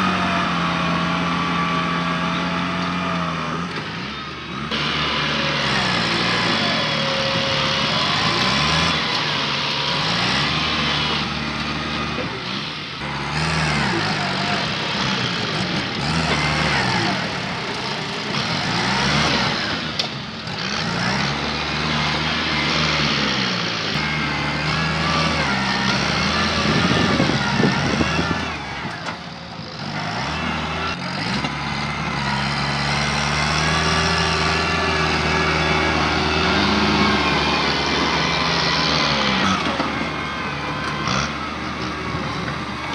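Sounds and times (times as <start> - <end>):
machinery clatter and rumble: 0.0 - 42.9
tractor engine labouring: 0.0 - 42.9.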